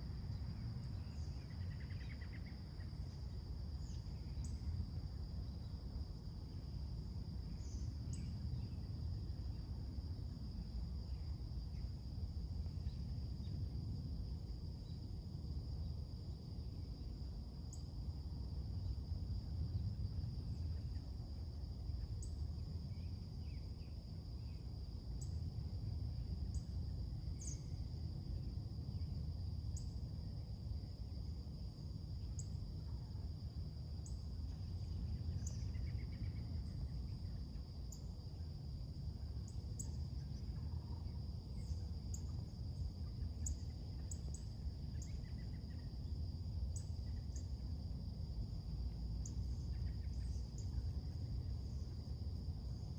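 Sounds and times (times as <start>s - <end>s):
crickets droning: 0.0s - 52.9s.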